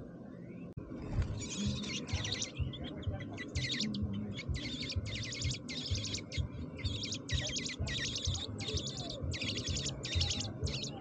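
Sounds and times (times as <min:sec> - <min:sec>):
nestlings chirping: 0:01.1 - 0:11.0.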